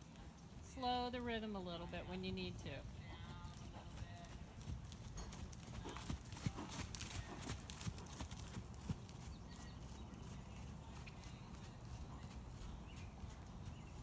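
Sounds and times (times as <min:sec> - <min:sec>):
hoofbeats trotting on sand: 0:00.0 - 0:14.0.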